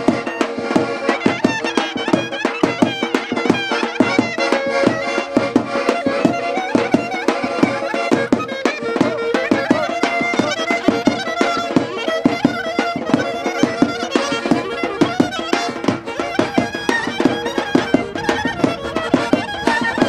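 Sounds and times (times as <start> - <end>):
folk dance music: 0.0 - 20.0.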